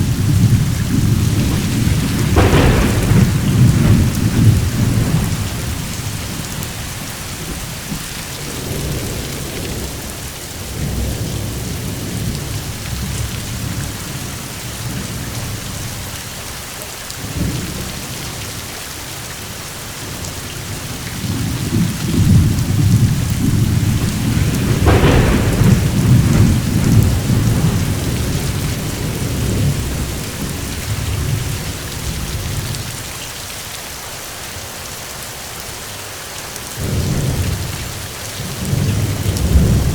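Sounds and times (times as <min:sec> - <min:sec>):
thunder rumbling: 0:00.0 - 0:16.1, 0:20.0 - 0:33.2, 0:36.8 - 0:39.9
steady rain: 0:00.0 - 0:39.9.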